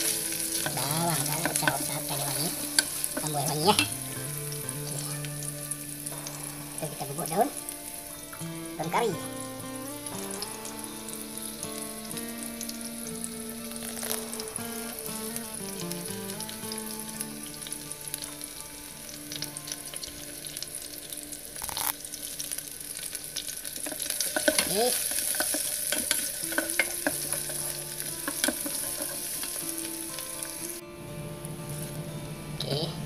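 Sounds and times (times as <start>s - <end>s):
food sizzling in hot oil: 0.0s - 32.9s.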